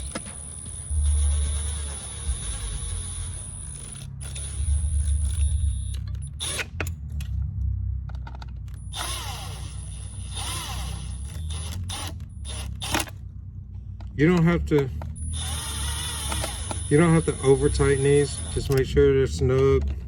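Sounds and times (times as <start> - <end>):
screwdriver clicking and scraping: 0.0 - 7.4, 8.2 - 13.2, 14.0 - 20.0.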